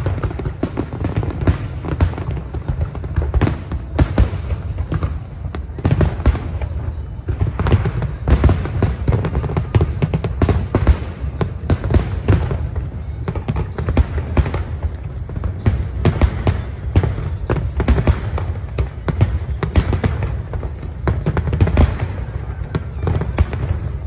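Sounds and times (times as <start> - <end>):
fireworks booming and cracking: 0.0 - 24.0.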